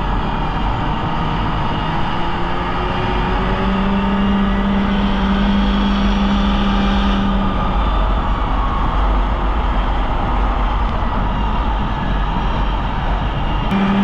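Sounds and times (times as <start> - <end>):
snowmobile engine running: 0.0 - 14.0
wind rumbling on microphone: 0.0 - 14.0.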